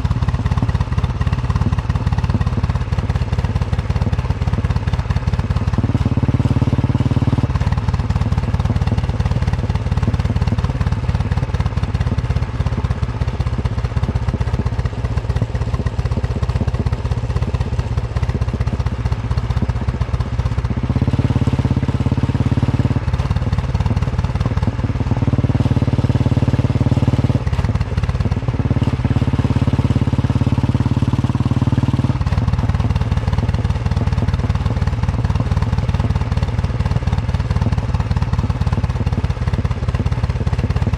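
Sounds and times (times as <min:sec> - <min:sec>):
motorcycle engine thumping: 0:00.0 - 0:40.9.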